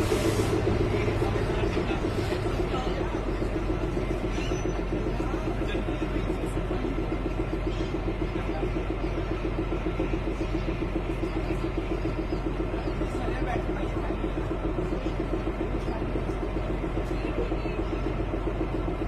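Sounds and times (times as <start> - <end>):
fast pulsing hum: 0.0 - 19.0
train running rumble: 0.0 - 19.0.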